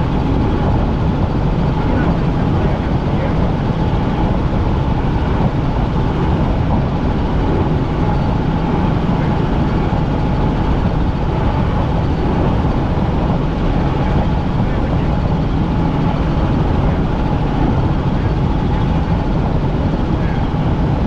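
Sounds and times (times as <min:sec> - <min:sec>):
faint steady whine: 0:00.0 - 0:21.0
helicopter engine and rotor noise: 0:00.0 - 0:21.0.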